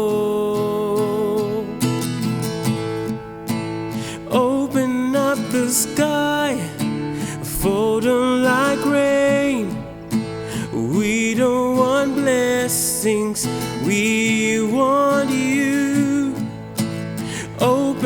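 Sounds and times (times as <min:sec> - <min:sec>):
person singing: 0:00.0 - 0:02.3, 0:04.0 - 0:18.0
acoustic guitar strumming: 0:00.0 - 0:18.0.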